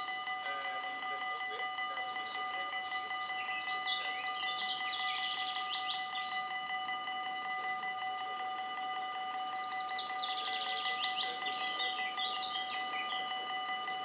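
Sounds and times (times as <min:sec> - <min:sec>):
birds chirping: 0:00.0 - 0:14.0
level crossing warning bell: 0:00.0 - 0:14.0.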